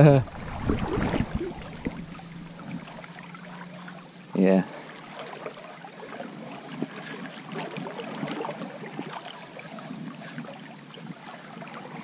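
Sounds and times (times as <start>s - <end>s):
shallow river water running: 0.0s - 12.0s
small water splashes: 0.0s - 12.0s.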